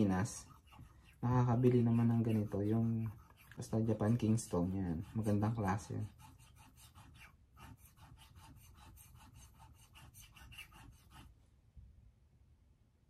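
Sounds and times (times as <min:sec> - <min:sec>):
scissor blade scraping on whetstone: 0:00.0 - 0:11.3.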